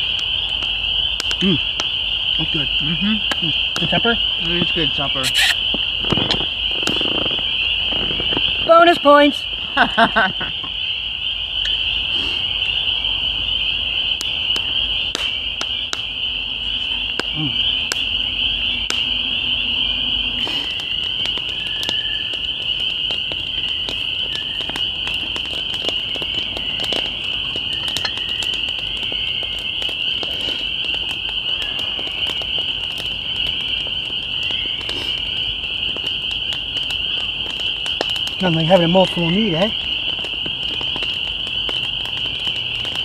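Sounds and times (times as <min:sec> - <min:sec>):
campfire crackling: 0:00.0 - 0:43.0
chorus of frogs trilling: 0:00.0 - 0:43.0.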